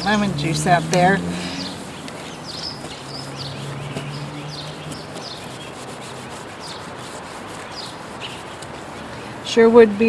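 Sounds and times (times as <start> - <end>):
lemon scrubbing plastic lens: 0.0 - 9.3
small birds chirping: 0.0 - 9.4.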